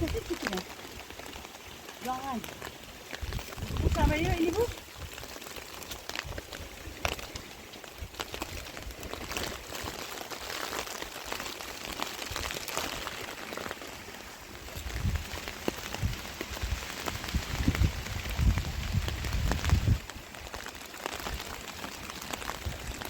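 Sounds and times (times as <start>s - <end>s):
rain patter: 0.0s - 23.0s.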